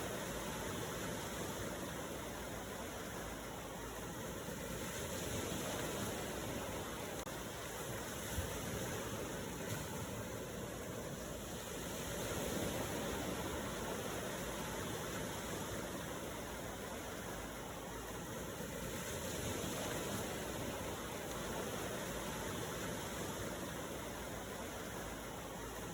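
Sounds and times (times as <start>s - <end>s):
ocean waves washing: 0.0s - 25.9s.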